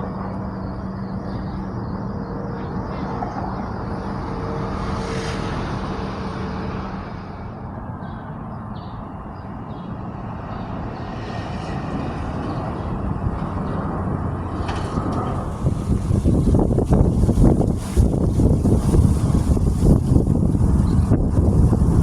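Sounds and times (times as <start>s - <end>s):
jet aircraft engine overhead: 0.0s - 22.0s.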